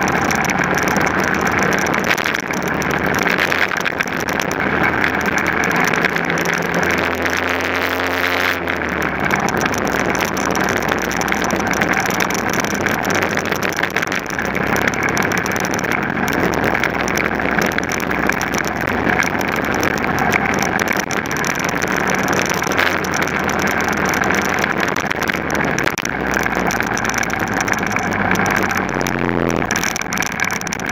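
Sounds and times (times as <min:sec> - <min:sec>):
racing car engine under load: 0:00.0 - 0:30.9
road noise: 0:00.0 - 0:30.9.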